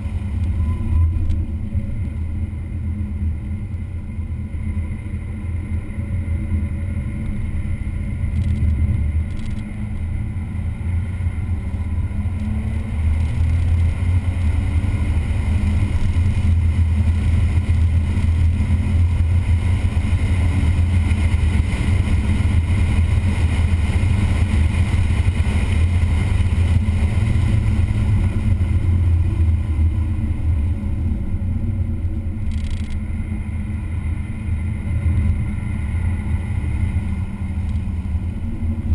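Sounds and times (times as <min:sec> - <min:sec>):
race car engine drone: 0:00.0 - 0:38.9
wind noise: 0:00.0 - 0:38.9.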